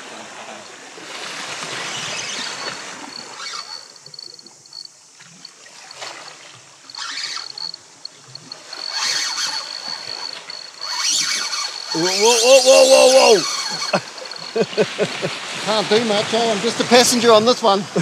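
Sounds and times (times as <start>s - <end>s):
fishing reel drag buzzing: 1.7s - 16.6s.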